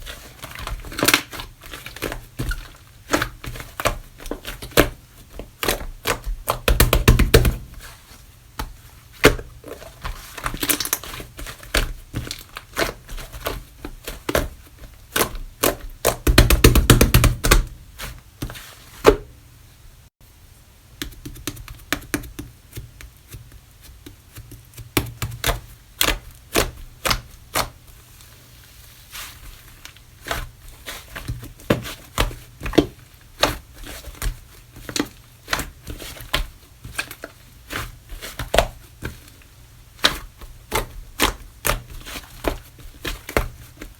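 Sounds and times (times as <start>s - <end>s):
slime squishing by hand: 0.0s - 19.1s, 21.1s - 43.9s.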